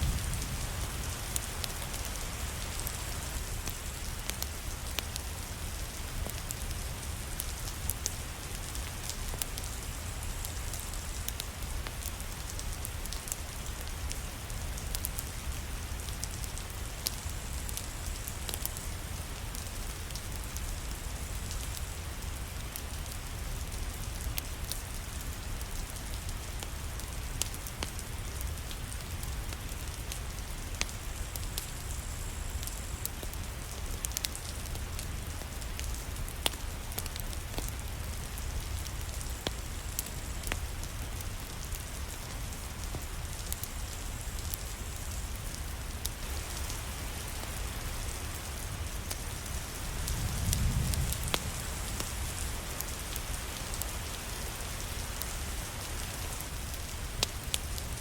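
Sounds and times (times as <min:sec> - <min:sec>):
steady rain: 0:00.0 - 0:58.0
wood fire crackling and popping: 0:00.0 - 0:58.0.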